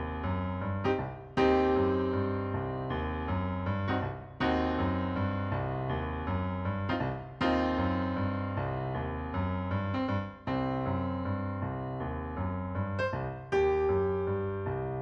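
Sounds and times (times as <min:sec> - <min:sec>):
slow piano-like chords: 0:00.0 - 0:15.0.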